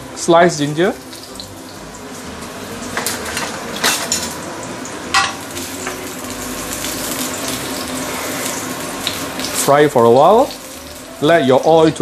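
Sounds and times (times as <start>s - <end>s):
ginger sizzling in oil: 0.0s - 12.0s.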